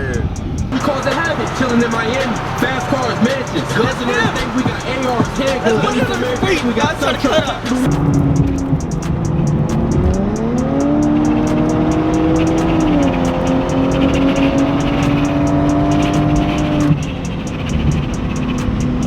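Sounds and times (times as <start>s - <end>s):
car engine revving hard: 0.0s - 19.0s
music with steady beat: 0.0s - 19.0s.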